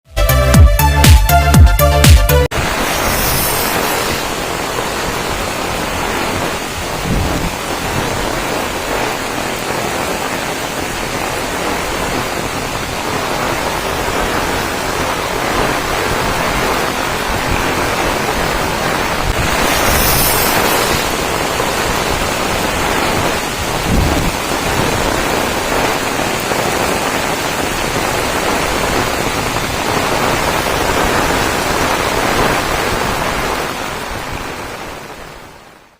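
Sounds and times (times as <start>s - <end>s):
waterfall rushing: 1.8s - 35.9s.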